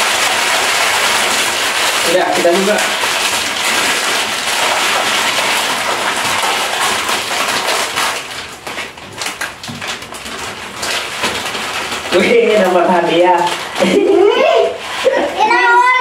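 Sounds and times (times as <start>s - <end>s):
plastic wrappers crinkling: 0.0s - 16.0s.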